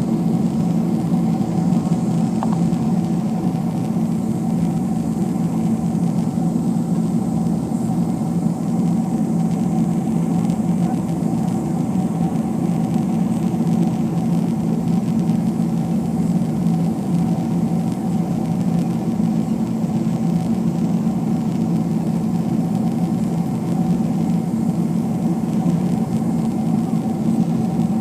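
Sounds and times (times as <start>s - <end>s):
faint steady whine: 0.0s - 28.0s
jet engine and airflow drone: 0.0s - 28.0s.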